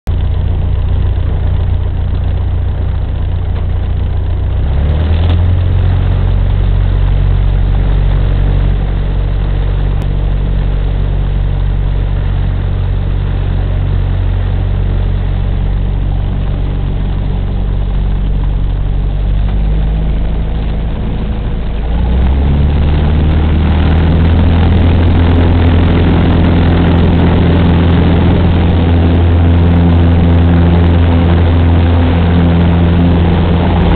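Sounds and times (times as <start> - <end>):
light aircraft engine and propeller: 0.0 - 33.9.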